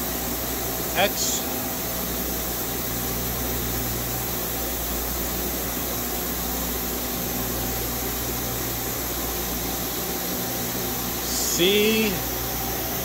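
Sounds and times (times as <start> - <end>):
machine tool humming and hissing: 0.0 - 13.0.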